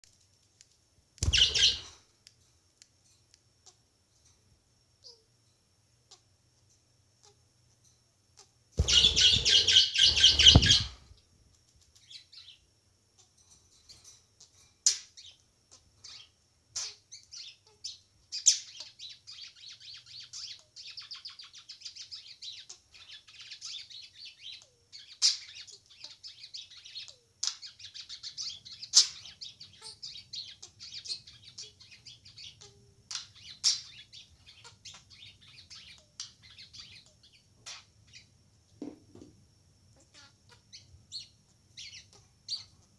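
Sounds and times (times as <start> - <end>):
small bird chirping: 0.0 - 4.4, 5.0 - 5.4, 6.0 - 42.9.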